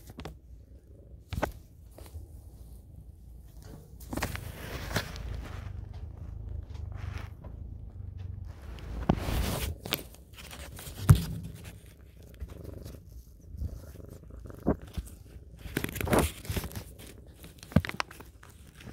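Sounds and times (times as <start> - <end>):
kitten purring: 0.0 - 18.9.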